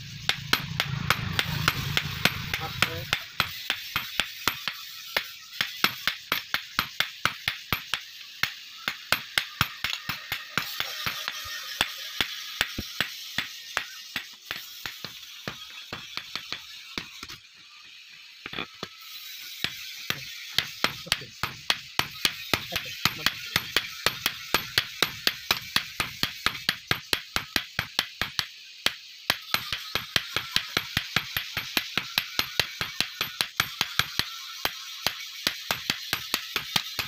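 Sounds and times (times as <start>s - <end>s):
hammer striking steel on anvil: 0.1s - 17.4s, 19.6s - 37.0s.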